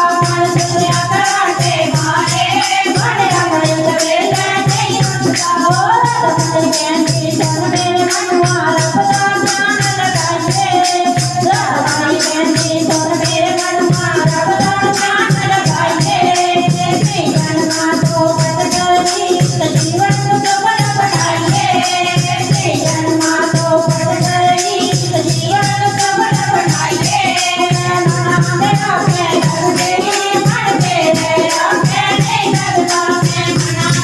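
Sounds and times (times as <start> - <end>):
shaken rattling percussion: 0.0 - 34.0
steady drum beat: 0.0 - 34.0.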